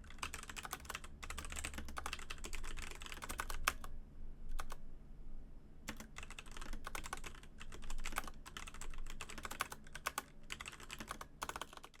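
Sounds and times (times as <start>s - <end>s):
mechanical keyboard typing: 0.0s - 3.9s, 4.5s - 4.8s, 5.9s - 12.0s.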